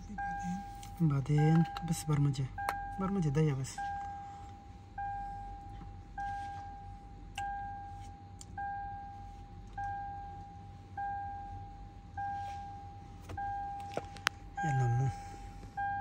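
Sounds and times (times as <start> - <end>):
car warning chime dinging: 0.0 - 16.0.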